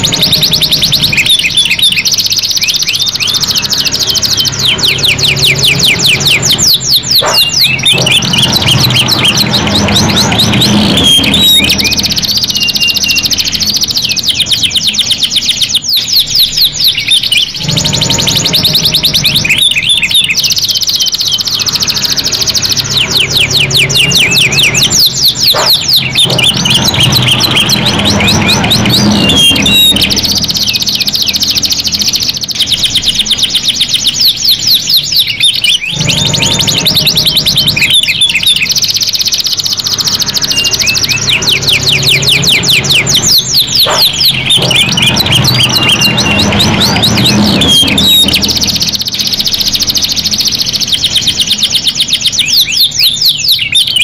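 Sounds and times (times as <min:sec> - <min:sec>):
canaries singing trills: 0:00.0 - 0:54.0.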